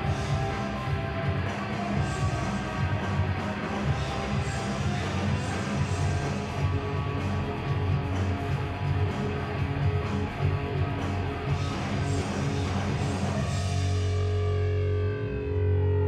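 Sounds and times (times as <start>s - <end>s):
live rock band playing: 0.0s - 14.5s.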